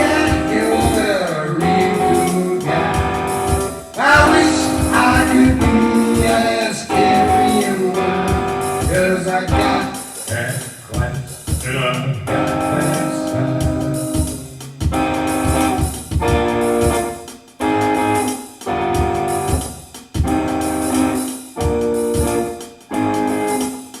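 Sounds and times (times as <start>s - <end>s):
sustained band chords: 0.0s - 23.6s
steady drum beat: 0.0s - 24.0s.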